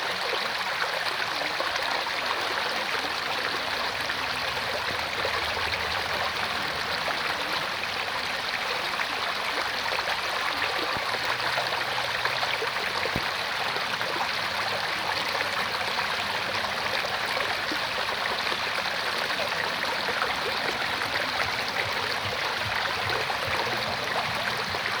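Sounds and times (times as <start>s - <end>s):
stream rushing and babbling: 0.0s - 25.0s.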